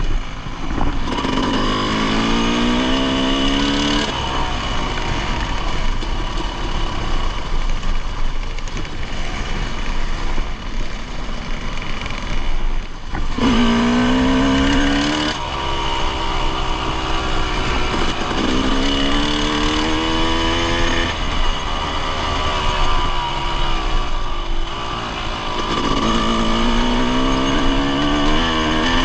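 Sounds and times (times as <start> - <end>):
steady rushing noise: 0.0 - 29.0
dirt bike engine revving: 0.5 - 7.9, 13.1 - 29.0.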